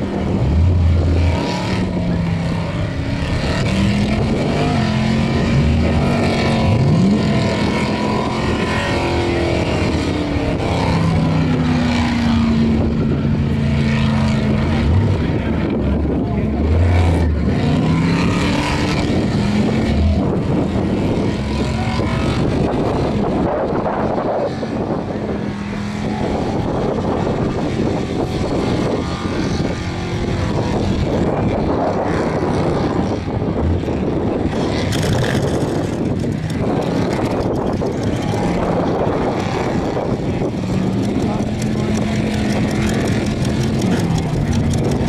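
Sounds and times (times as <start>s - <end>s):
engine at high revs: 0.0s - 45.0s.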